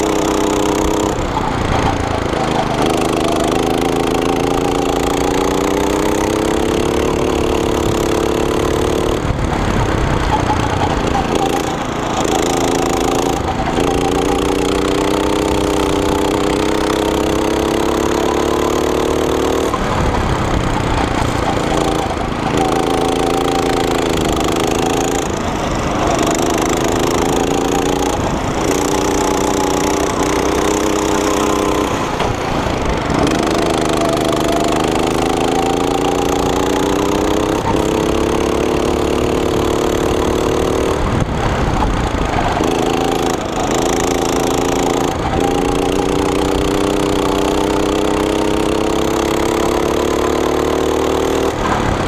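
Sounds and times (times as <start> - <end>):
go-kart engine at full throttle: 0.0 - 52.0.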